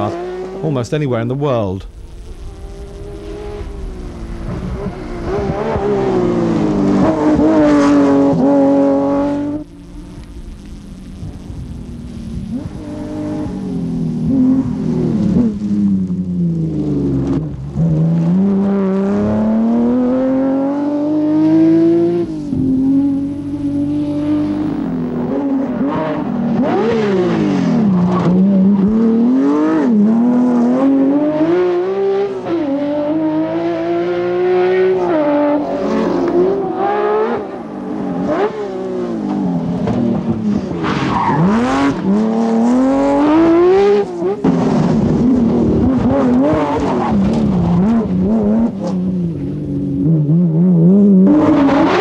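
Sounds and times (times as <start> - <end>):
rally car engine howling at high revs: 0.0 - 0.7, 1.9 - 52.0.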